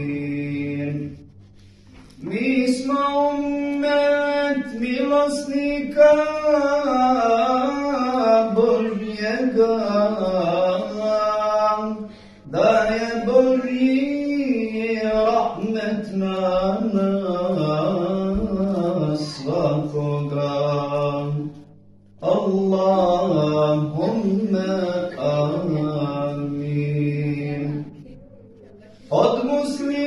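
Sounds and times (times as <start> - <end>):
man chanting: 0.0 - 1.3, 2.2 - 27.9, 29.0 - 30.0.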